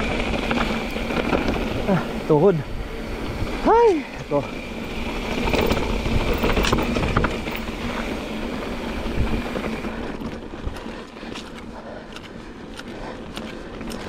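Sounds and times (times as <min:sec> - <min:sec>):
wind rumbling on microphone: 0:00.0 - 0:11.5
bike knocking and rattling: 0:00.0 - 0:14.0
bike tyres crunching on dirt: 0:00.0 - 0:14.0.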